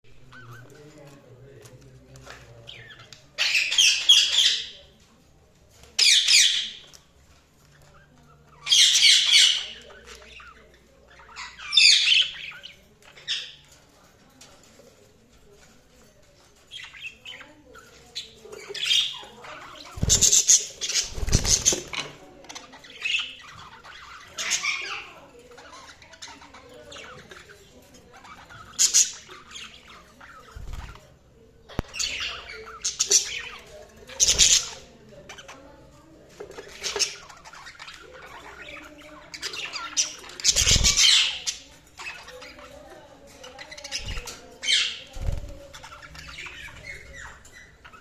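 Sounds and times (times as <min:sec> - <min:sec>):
budgerigars chirping: 0:02.2 - 0:04.9, 0:07.6 - 0:13.7, 0:16.7 - 0:31.0, 0:31.7 - 0:35.8, 0:36.4 - 0:48.0.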